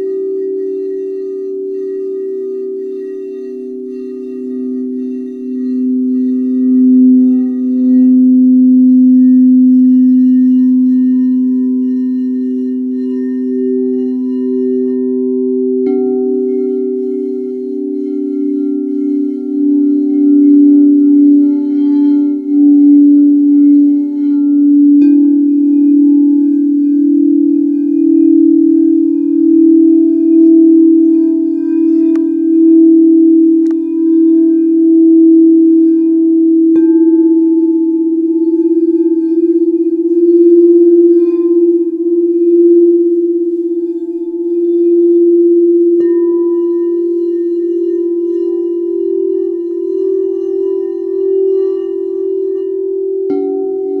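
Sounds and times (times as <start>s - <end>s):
singing bowl struck: 0.0s - 54.0s
singing bowls ringing: 0.0s - 54.0s.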